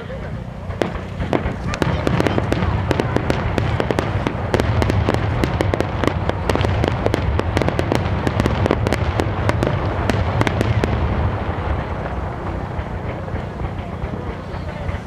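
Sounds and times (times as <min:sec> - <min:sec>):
low rumble: 0:00.0 - 0:15.0
sharp bangs and crackles: 0:00.3 - 0:15.0
fireworks shells bursting: 0:00.4 - 0:15.0.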